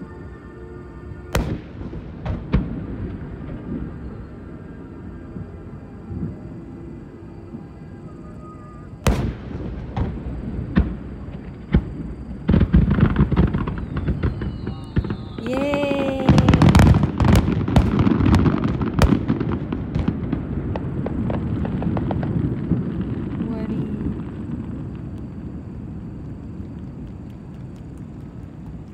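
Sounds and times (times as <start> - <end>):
fireworks bangs and crackling: 1.2 - 6.6, 8.8 - 28.9.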